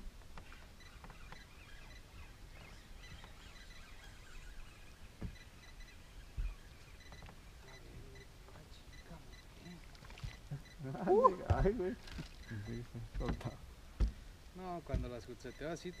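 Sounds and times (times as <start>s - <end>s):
small birds chirping: 0.3s - 11.6s, 12.2s - 16.0s.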